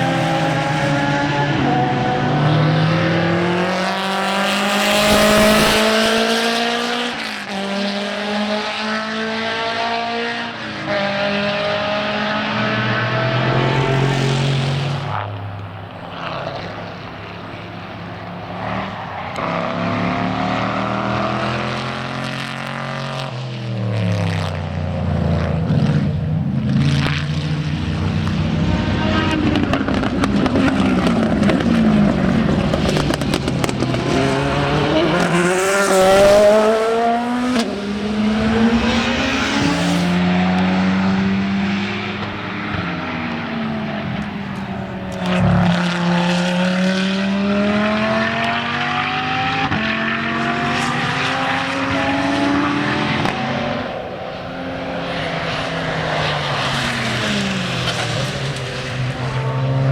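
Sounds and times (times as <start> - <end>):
racing car engine revving: 0.0 - 59.9
racing car passing: 0.0 - 59.9.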